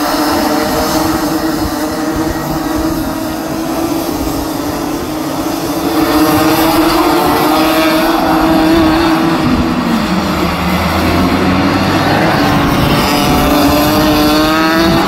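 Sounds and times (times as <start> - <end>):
racing kart engines droning: 0.0 - 15.0.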